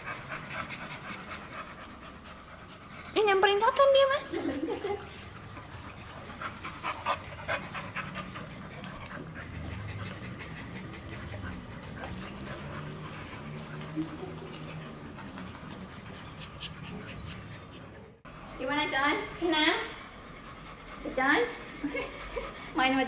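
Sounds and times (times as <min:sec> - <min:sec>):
dog panting: 0:00.0 - 0:18.3, 0:19.2 - 0:23.0.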